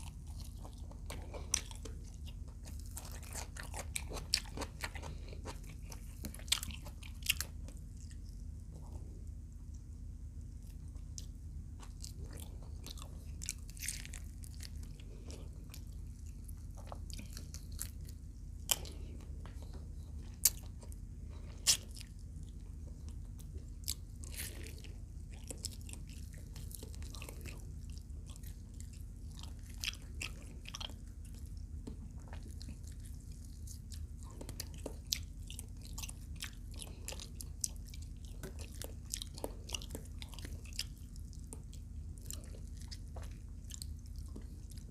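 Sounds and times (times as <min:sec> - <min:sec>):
person chewing crunchy food: 0:00.0 - 0:44.9
steady low hum: 0:00.0 - 0:44.9.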